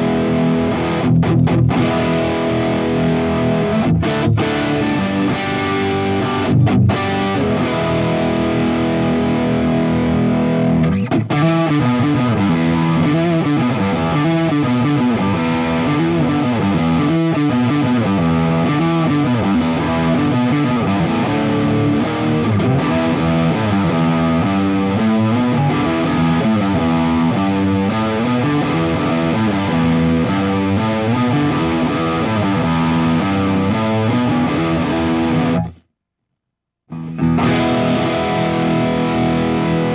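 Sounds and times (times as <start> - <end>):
distorted electric guitar: 0.0 - 35.9, 36.9 - 39.9.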